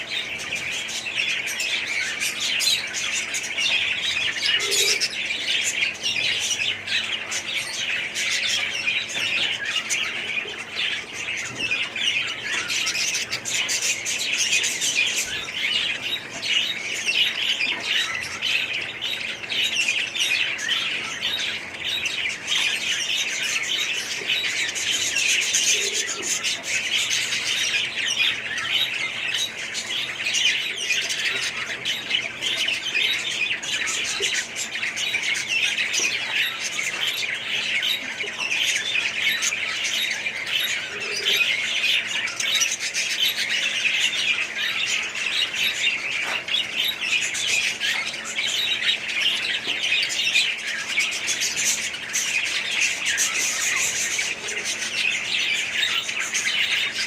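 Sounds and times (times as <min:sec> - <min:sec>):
parrots chattering and squawking: 0:00.0 - 0:57.0.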